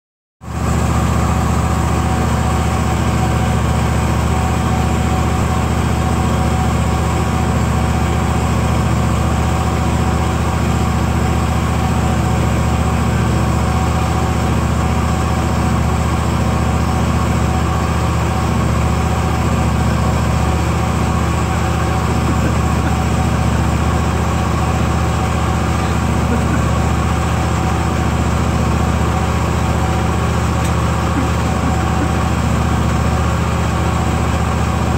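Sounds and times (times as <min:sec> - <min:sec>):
engine idling: 0:00.4 - 0:34.9.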